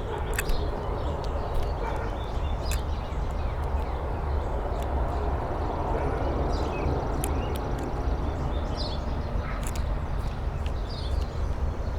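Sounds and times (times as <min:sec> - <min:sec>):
light high ticks: 0:00.0 - 0:08.4, 0:09.4 - 0:11.7.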